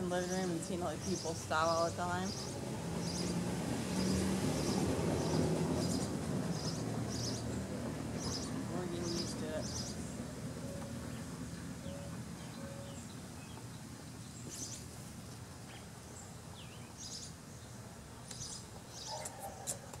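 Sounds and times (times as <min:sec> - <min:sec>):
birds chirping: 0:00.0 - 0:20.0
low steady background noise: 0:00.0 - 0:20.0.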